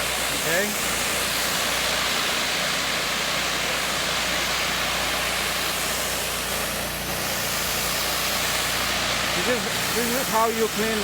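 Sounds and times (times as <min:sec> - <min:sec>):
pressure washer motor drone: 0:00.0 - 0:11.0
water jet hissing: 0:00.0 - 0:11.0.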